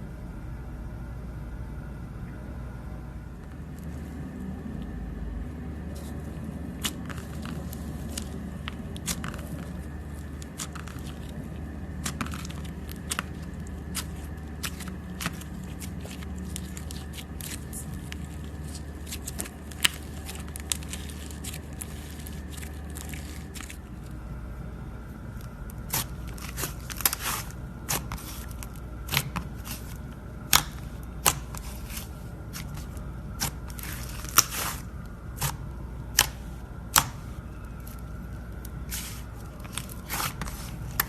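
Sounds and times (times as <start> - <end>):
steady low hum: 0.0 - 41.0
slime crackling and popping: 6.7 - 24.2, 25.4 - 41.0.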